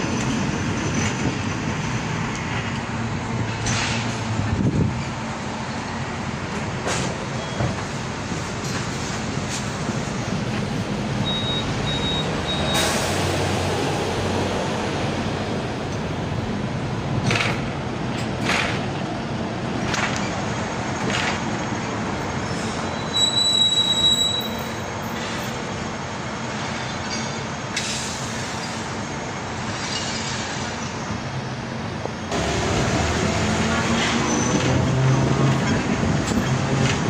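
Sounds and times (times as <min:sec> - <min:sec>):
tram rumbling: 0:00.0 - 0:37.0.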